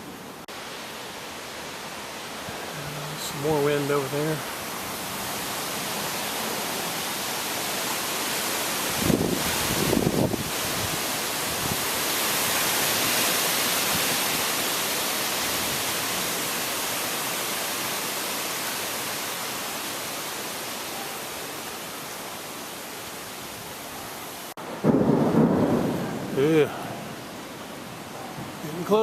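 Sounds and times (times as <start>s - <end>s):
storm wind rushing through trees: 0.0s - 29.0s.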